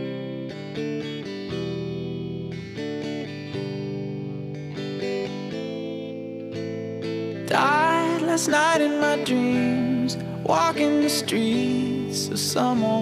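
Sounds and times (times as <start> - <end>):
slow guitar chords: 0.0 - 13.0.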